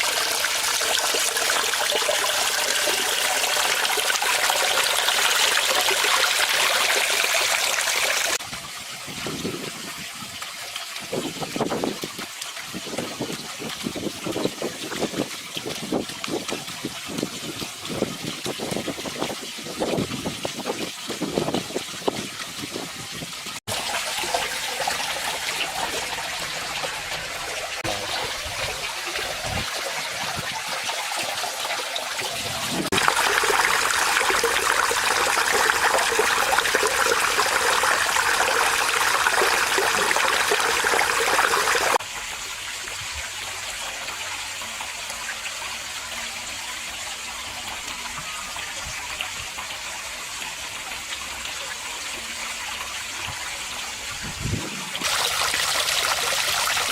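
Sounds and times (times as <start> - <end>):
water splashing over waterfall: 0.0 - 56.9.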